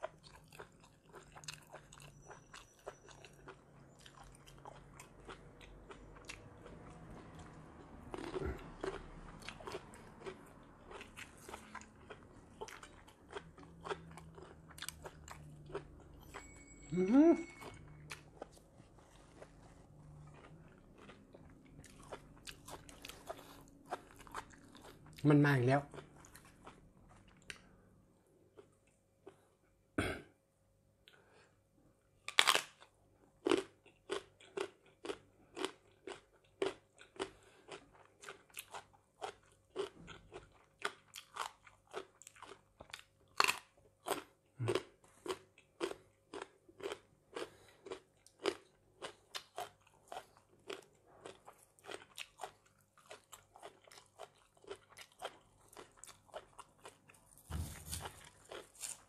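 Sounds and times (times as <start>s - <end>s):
crunchy vegetable chewing: 0.0s - 16.4s, 17.5s - 27.8s, 32.3s - 59.0s.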